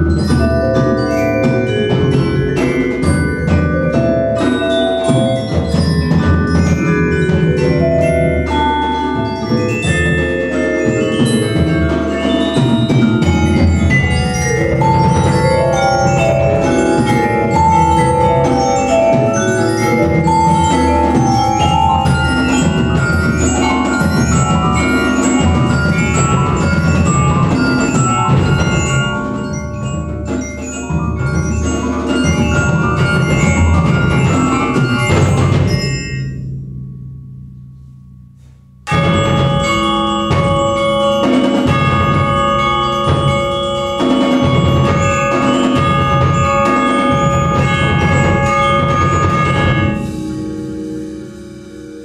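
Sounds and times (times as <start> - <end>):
mallet keyboard instruments: 0.0 - 52.0.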